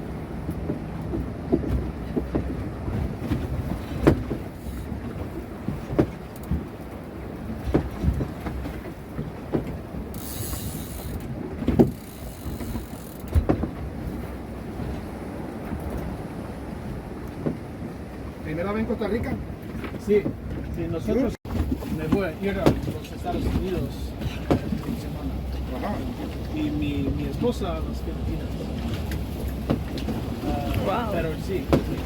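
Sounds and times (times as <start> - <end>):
boat engine humming: 0.0 - 32.0
hull knocking on waves: 0.0 - 32.0.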